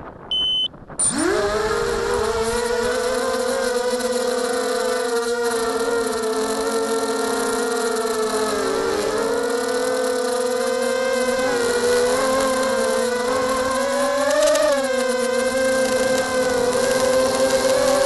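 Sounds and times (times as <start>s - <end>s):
quadcopter propellers whining: 0.3s - 18.0s.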